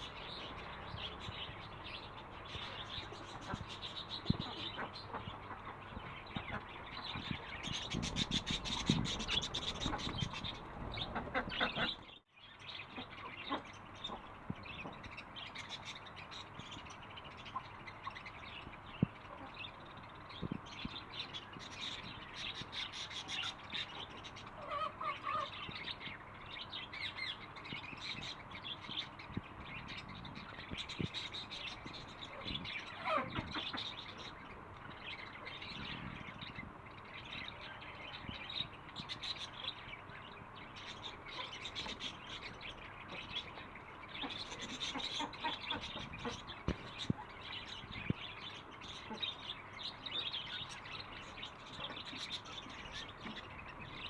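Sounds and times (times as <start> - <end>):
birds chirping and tweeting: 0.0 - 54.0.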